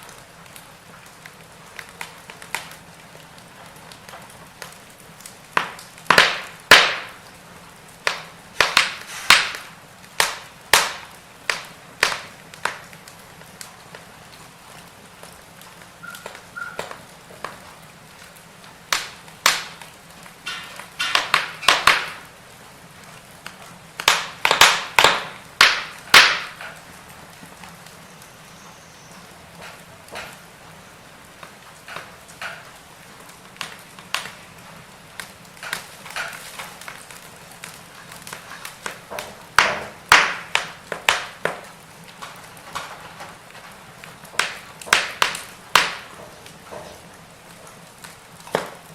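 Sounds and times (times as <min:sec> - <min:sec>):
firewood crackling and popping: 0:00.0 - 0:48.9
soft hiss of fire: 0:00.0 - 0:48.9.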